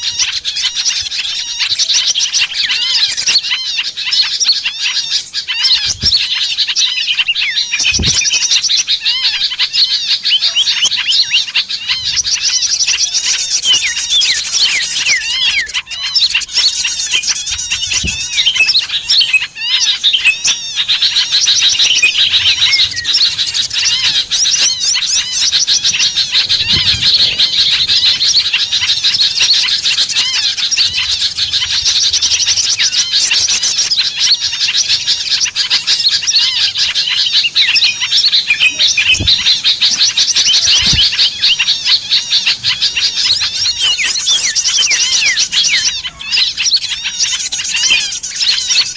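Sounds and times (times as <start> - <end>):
small birds chirping and twittering: 0.0 - 48.9.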